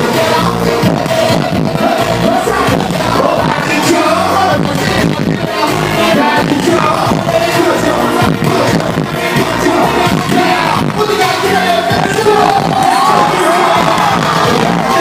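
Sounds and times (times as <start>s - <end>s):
loud band playing: 0.0s - 15.0s
person singing: 0.0s - 15.0s
steady drum beat: 0.0s - 15.0s.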